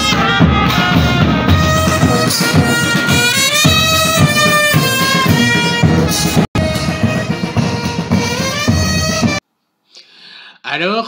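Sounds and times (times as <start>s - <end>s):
bass drum beats: 0.0s - 9.4s
military brass band playing: 0.0s - 9.4s
trumpets holding notes: 0.0s - 9.4s.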